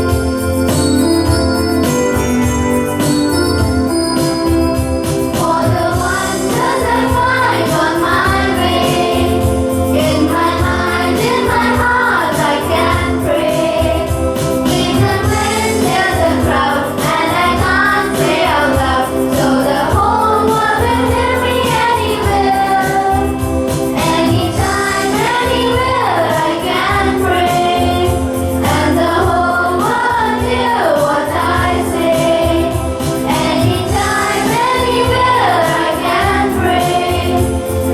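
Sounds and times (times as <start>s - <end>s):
instrumental accompaniment: 0.0s - 37.9s
children singing together: 5.2s - 37.9s.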